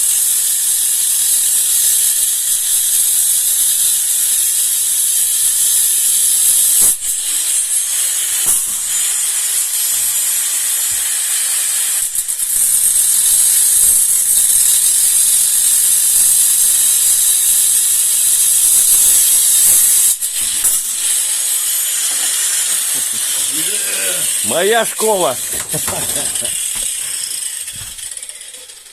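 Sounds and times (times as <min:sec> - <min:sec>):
angle grinder cutting: 0:00.1 - 0:28.9.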